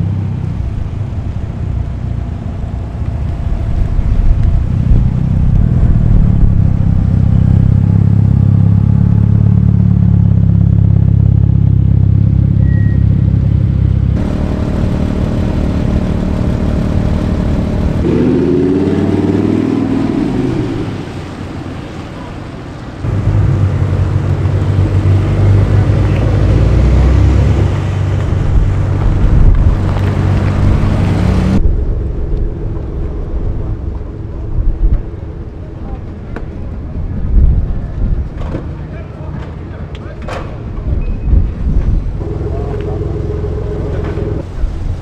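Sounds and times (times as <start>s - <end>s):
low exhaust note: 0.0s - 21.6s, 23.0s - 39.1s, 40.6s - 45.0s
car engine accelerating: 0.0s - 45.0s
cars driving past: 0.0s - 45.0s.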